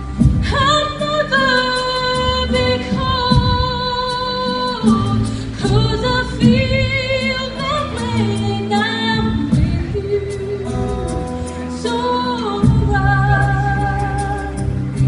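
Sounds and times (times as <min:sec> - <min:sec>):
instrumental backing: 0:00.0 - 0:15.0
woman singing a slow ballad: 0:00.0 - 0:15.0.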